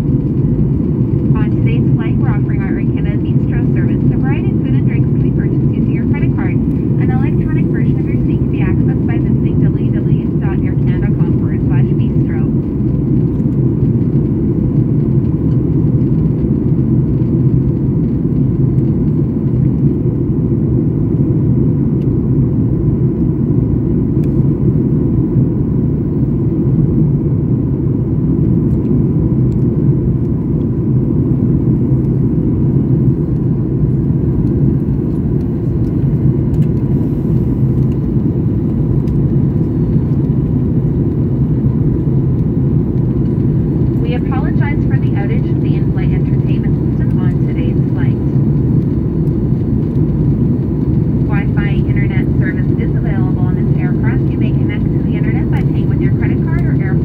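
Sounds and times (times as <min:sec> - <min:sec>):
jet cabin engine and airflow noise: 0:00.0 - 0:57.0.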